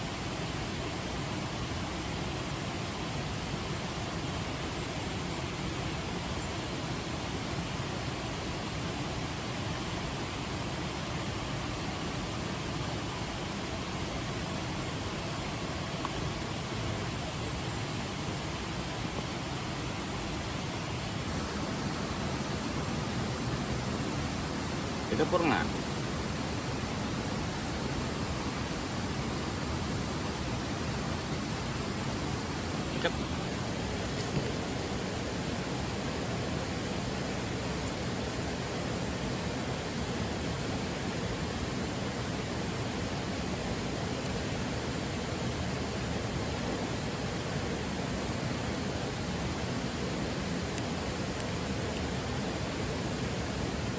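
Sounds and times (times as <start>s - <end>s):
rushing water: 0.0s - 53.9s.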